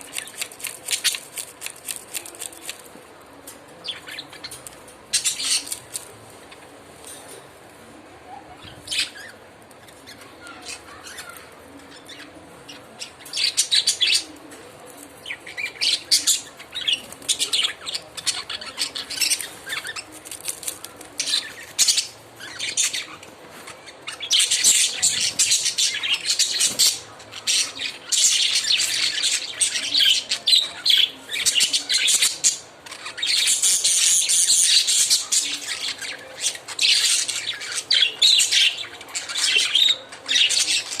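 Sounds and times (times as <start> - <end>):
lovebirds chirping: 0.0 - 3.0, 3.6 - 7.4, 8.2 - 41.0.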